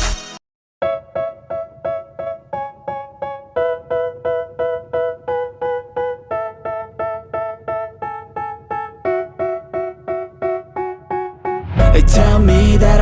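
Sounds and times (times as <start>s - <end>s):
keyboard playing repeated chords: 0.8s - 13.0s.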